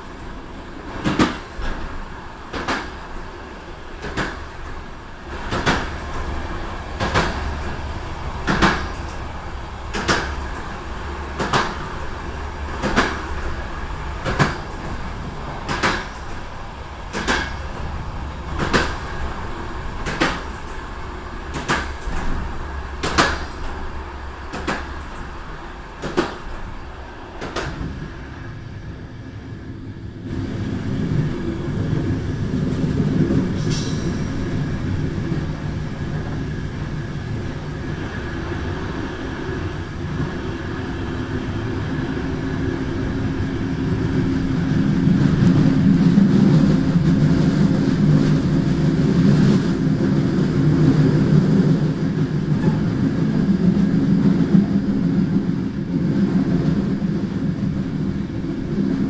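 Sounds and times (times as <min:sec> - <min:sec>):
train wheels clacking: 0:00.0 - 0:28.4, 0:30.2 - 0:59.0
train running rumble: 0:00.0 - 0:59.0.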